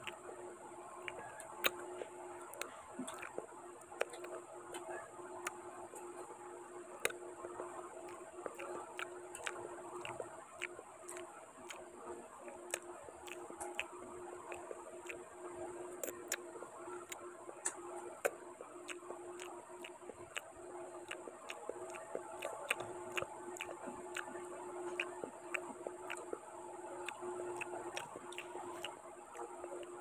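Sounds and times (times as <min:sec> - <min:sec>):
wet chewing and mouth smacks: 0:00.0 - 0:06.1, 0:06.9 - 0:30.0
steady low hum: 0:00.0 - 0:30.0
fingers squishing rice on plate: 0:01.0 - 0:06.1, 0:07.0 - 0:30.0.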